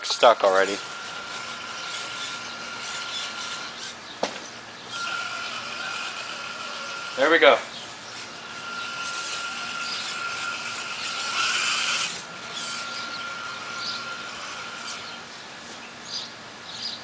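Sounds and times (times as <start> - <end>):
electric motor whining: 0.0 - 16.3.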